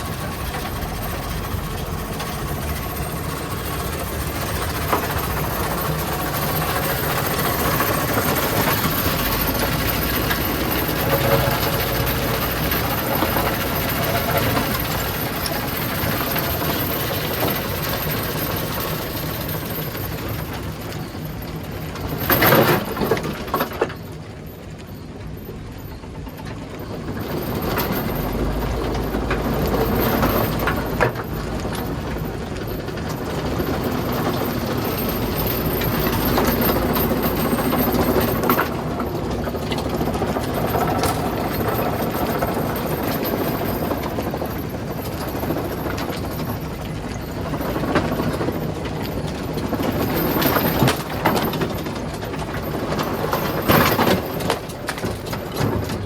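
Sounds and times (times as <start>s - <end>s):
rock crusher machinery noise: 0.0s - 56.0s.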